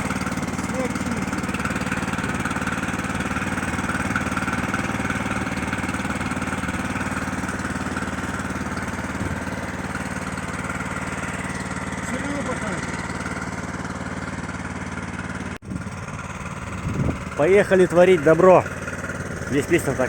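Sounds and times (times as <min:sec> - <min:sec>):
single-cylinder engine running: 0:00.0 - 0:20.0.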